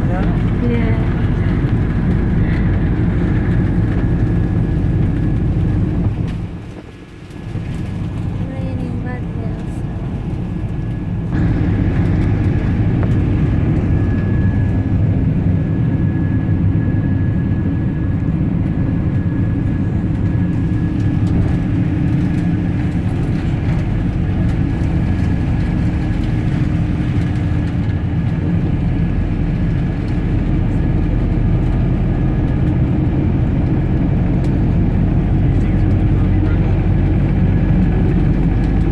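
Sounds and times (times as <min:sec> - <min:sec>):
moving vehicle rumble: 0:00.0 - 0:38.9.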